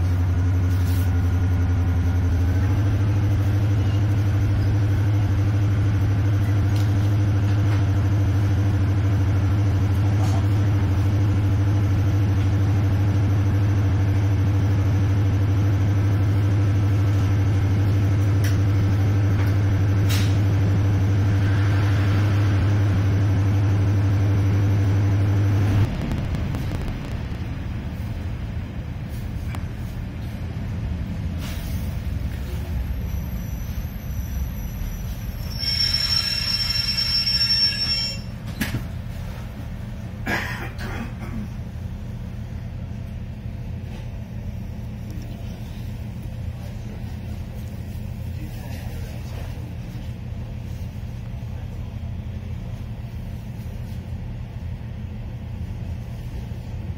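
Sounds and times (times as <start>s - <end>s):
train engine drone: 0.0s - 56.9s.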